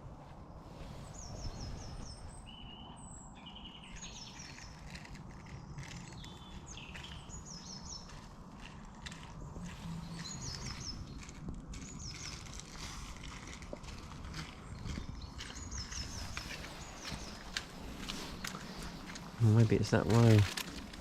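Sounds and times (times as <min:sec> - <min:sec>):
steady low rumble: 0:00.0 - 0:21.0
small birds singing: 0:00.5 - 0:21.0.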